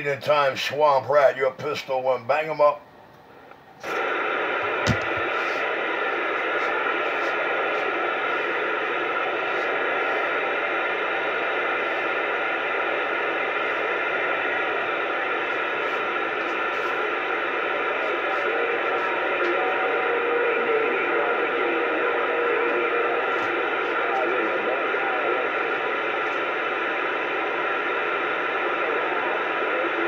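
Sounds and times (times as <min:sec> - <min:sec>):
radio static hiss: 0:03.5 - 0:30.0.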